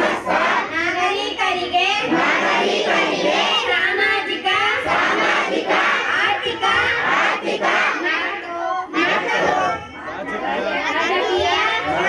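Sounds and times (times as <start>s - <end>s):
crowd reciting in unison: 0.0s - 12.0s.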